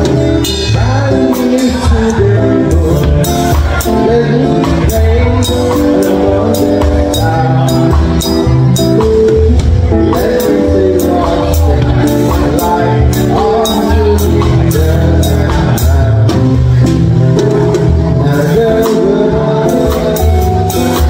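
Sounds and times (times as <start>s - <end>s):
drum kit with cymbal hits: 0.0s - 21.0s
electric guitar: 0.0s - 21.0s.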